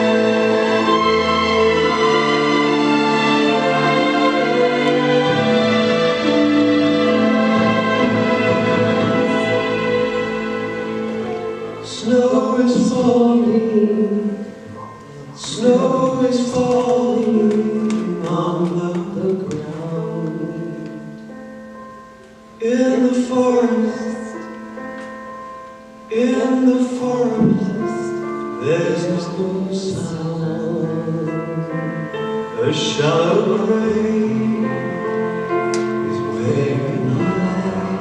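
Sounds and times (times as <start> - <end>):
sustained instrumental chords: 0.0 - 38.0.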